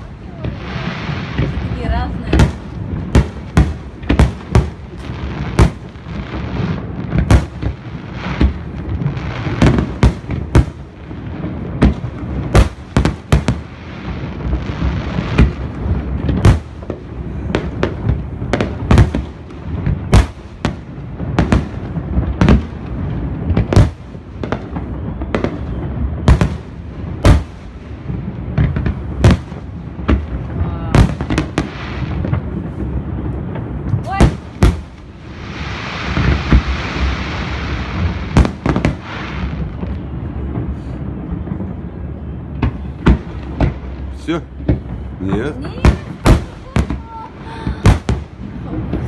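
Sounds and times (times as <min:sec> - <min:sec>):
low rumble of bursts: 0:00.0 - 0:49.0.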